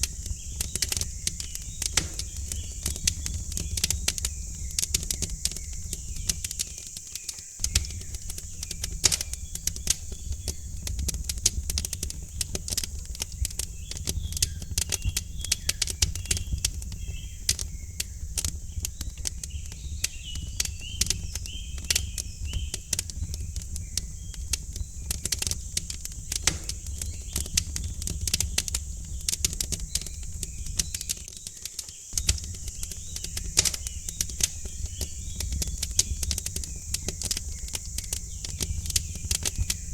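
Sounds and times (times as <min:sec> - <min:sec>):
faint birds chirping: 0:00.0 - 0:39.9
wood fire crackling: 0:00.0 - 0:39.9.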